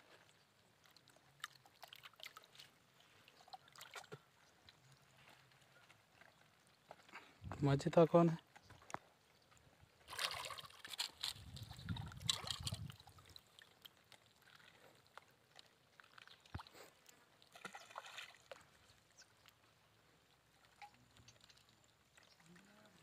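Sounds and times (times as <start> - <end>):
faint water lapping: 0.0 - 23.0
water sloshing and splashing: 0.0 - 23.0.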